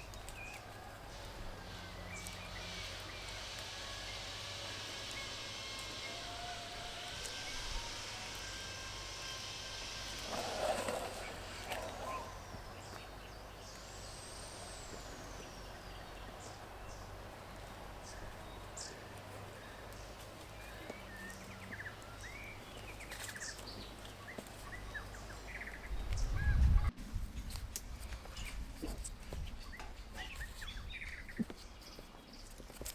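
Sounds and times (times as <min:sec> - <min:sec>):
outdoor background noise: 0:00.0 - 0:32.9.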